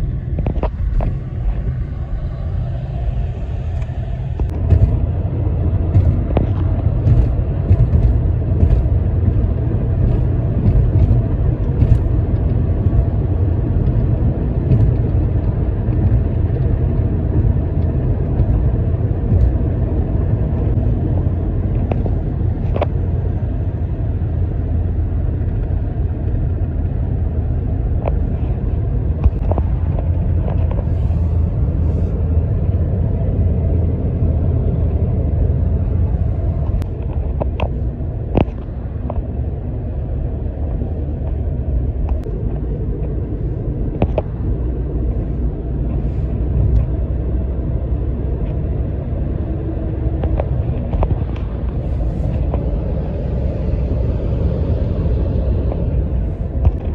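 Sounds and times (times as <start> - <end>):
vehicle driving rumble: 0.0 - 56.9.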